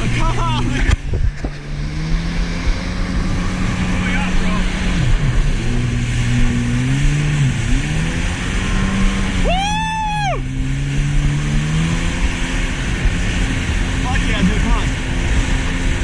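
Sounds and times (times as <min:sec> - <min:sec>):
jet ski engine: 0:00.0 - 0:16.0
water and wind rushing: 0:00.0 - 0:16.0.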